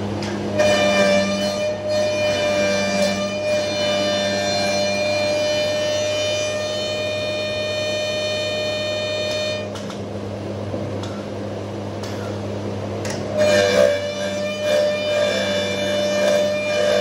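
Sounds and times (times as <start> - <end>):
cutter drum whine: 0.0 - 11.2, 13.1 - 17.0.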